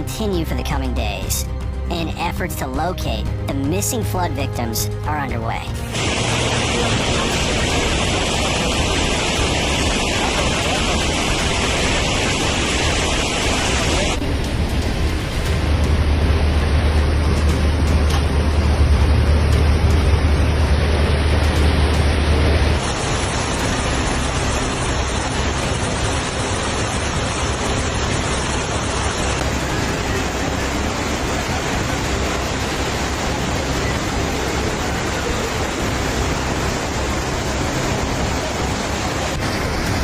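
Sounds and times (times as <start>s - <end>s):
rushing water: 0.0s - 40.0s.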